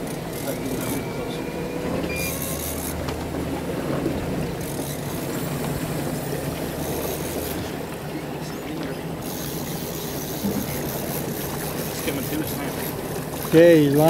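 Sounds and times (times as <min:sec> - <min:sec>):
boat engine hum: 0:00.0 - 0:14.0
water rushing past hull: 0:00.0 - 0:14.0.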